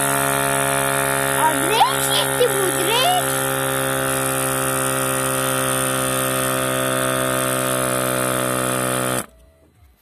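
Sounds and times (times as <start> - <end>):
small air compressor running: 0.0 - 9.4.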